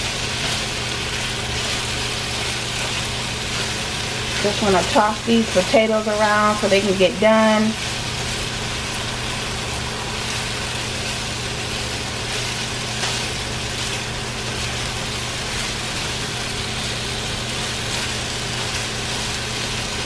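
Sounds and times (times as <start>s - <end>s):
potatoes sizzling in a skillet: 0.0s - 20.0s.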